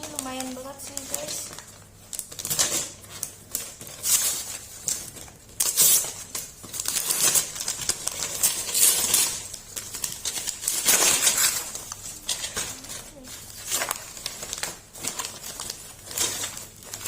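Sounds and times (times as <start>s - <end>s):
wrapping paper tearing and crumpling: 0.0s - 17.0s.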